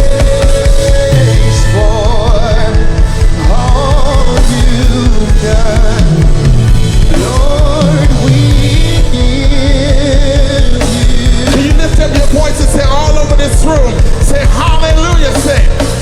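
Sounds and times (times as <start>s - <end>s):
live worship band playing: 0.0s - 16.0s
person singing with vibrato: 0.0s - 16.0s.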